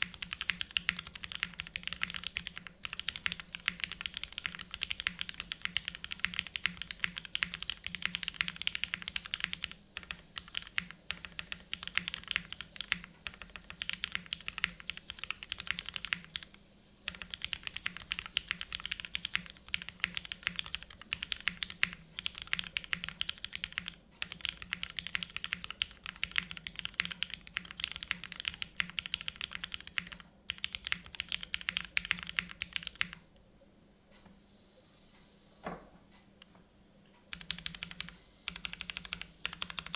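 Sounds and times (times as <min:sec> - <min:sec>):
fast mechanical keyboard typing: 0:00.0 - 0:33.2, 0:37.3 - 0:39.9.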